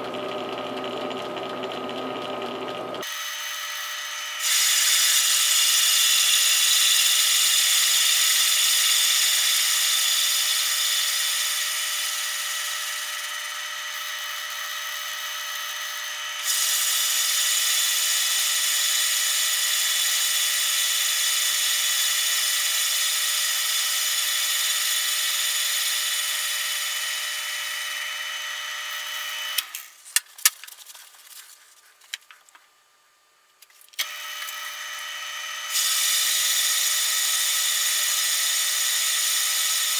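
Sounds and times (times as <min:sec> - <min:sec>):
metal lathe whining: 0:00.0 - 0:29.7, 0:34.0 - 0:39.9
tool cutting metal: 0:00.0 - 0:30.0, 0:34.0 - 0:39.9.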